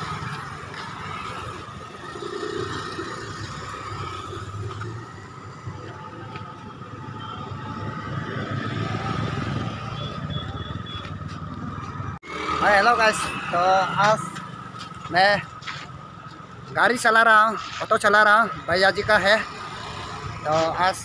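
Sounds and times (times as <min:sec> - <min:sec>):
motorcycles and cars passing: 0:00.0 - 0:21.0.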